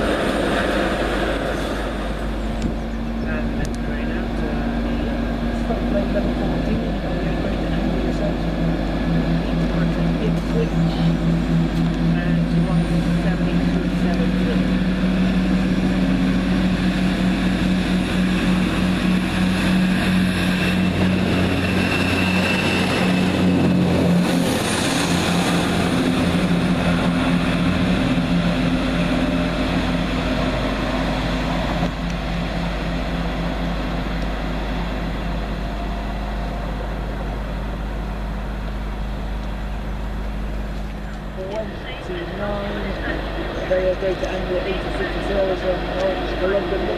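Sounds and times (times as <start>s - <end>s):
diesel train engine drone: 0.0s - 46.9s.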